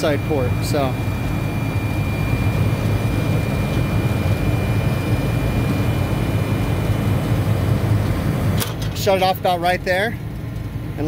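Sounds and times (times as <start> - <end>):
compressor and fan humming: 0.0 - 11.0.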